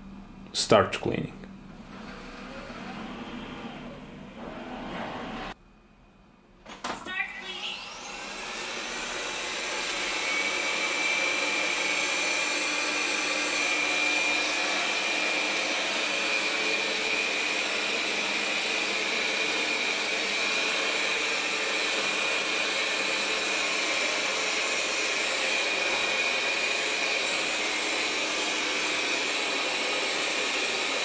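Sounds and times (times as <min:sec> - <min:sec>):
robot vacuum motor whining: 0:01.8 - 0:05.6, 0:07.5 - 0:31.0.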